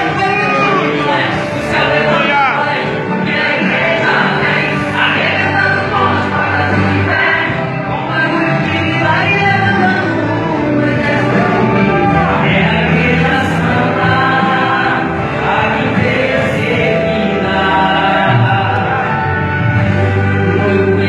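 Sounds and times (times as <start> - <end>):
gospel choir singing: 0.0 - 21.0
musical accompaniment: 0.0 - 21.0.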